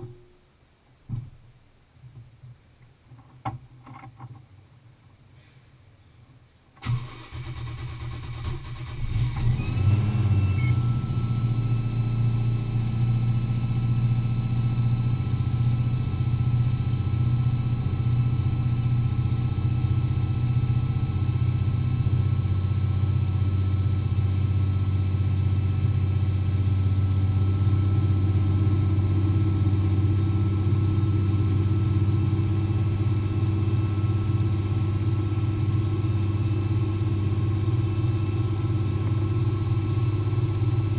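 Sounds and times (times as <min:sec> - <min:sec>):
car engine cranking and starting: 0:06.8 - 0:40.9
engine idling: 0:06.8 - 0:40.9.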